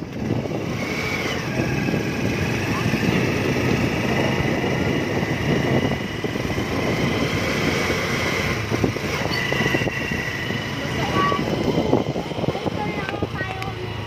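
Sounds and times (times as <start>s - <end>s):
motorcycle engine running: 0.0s - 14.0s
rumbling wind noise: 0.0s - 14.0s.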